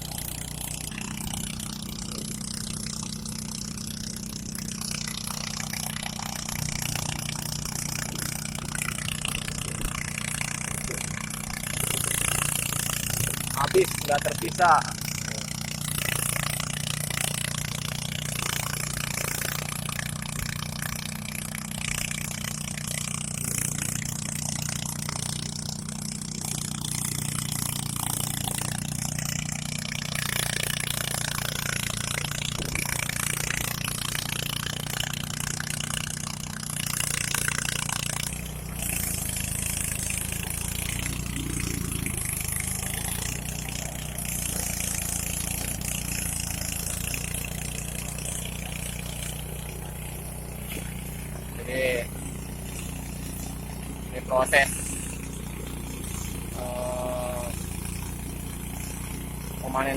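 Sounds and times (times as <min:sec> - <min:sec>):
rice thresher engine running: 0:00.0 - 0:59.9.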